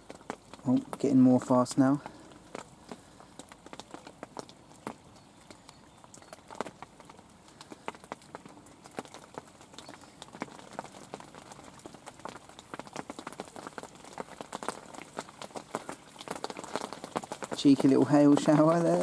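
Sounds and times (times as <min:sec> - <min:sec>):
hailstones striking ground: 0:00.0 - 0:19.0.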